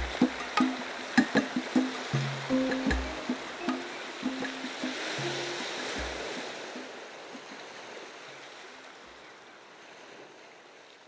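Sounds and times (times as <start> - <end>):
waves washing ashore: 0.0 - 11.0.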